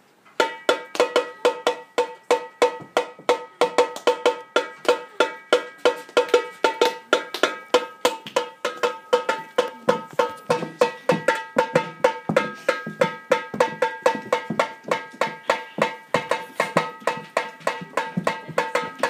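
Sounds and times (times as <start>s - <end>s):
repeated pitched percussive note: 0.4s - 19.0s.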